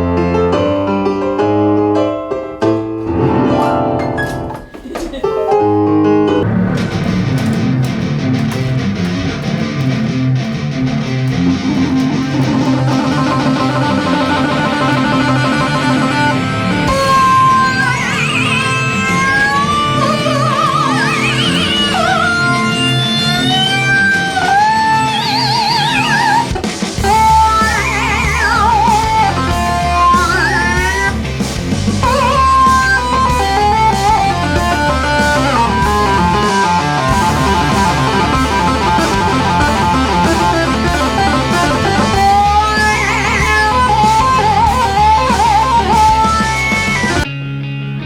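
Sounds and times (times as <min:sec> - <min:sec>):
high lead guitar melody: 0:00.0 - 0:48.0
distorted rock guitar chords: 0:06.4 - 0:48.0.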